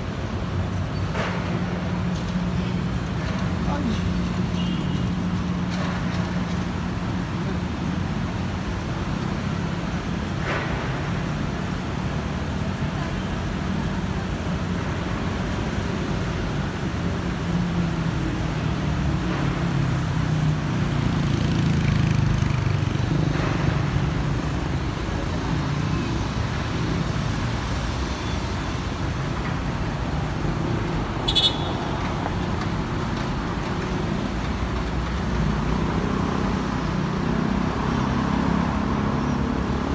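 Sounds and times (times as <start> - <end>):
street traffic hum: 0.0 - 39.9.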